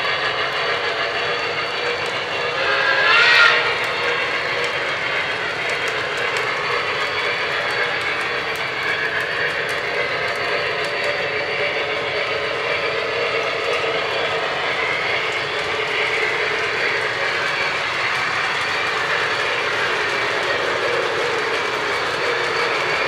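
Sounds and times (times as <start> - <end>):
model train wheels rumbling: 0.0 - 23.0.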